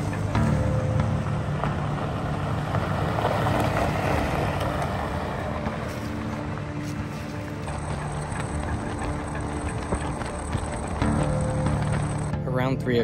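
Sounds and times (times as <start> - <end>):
pickup truck engine running: 0.0 - 12.6
tyres crunching over gravel: 0.0 - 12.6.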